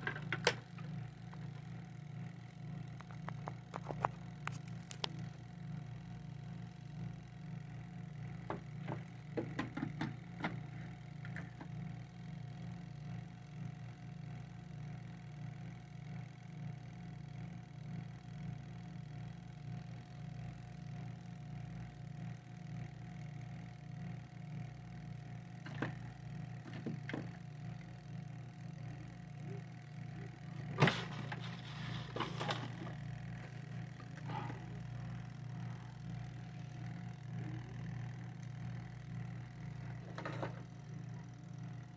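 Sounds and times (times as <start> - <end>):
washing machine motor humming: 0.0 - 41.9.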